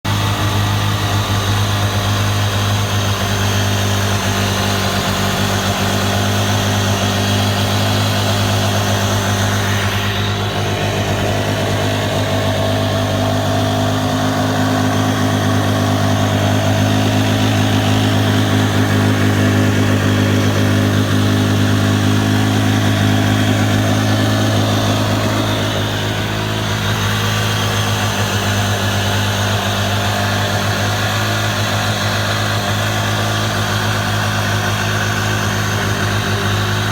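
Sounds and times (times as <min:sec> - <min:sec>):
jet ski engine idling: 0:00.0 - 0:36.9.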